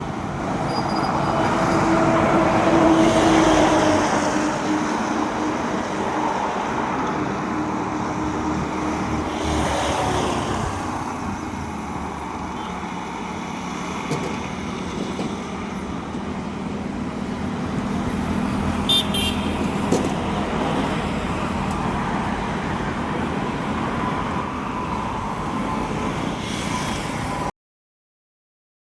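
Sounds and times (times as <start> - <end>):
road traffic noise: 0.0 - 27.5.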